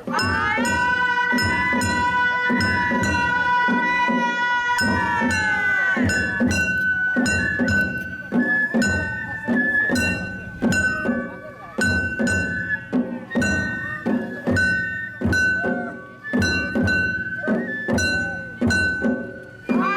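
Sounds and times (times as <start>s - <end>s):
bamboo flutes long held notes: 0.0s - 19.9s
drum strokes: 0.0s - 19.9s.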